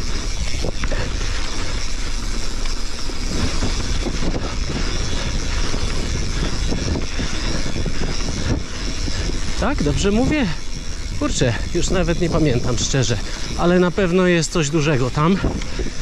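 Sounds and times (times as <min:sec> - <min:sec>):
bike rattling and clicking: 0:00.0 - 0:16.0
tyres rolling on dirt: 0:00.0 - 0:16.0
wind on microphone: 0:00.0 - 0:16.0.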